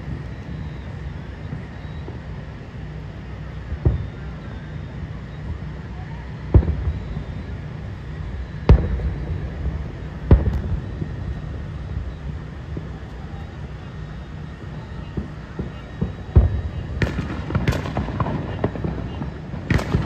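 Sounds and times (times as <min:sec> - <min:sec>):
fireworks booming with echo: 0:00.0 - 0:20.0
low background rumble: 0:00.0 - 0:20.0.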